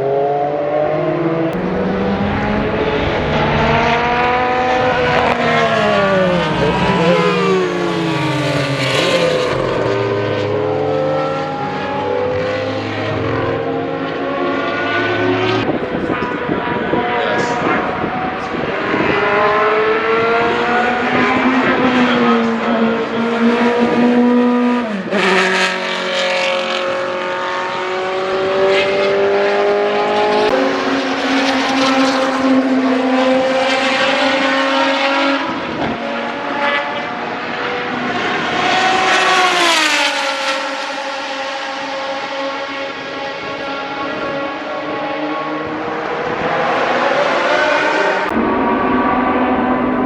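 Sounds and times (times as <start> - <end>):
race car engines at high revs: 0.0 - 50.0.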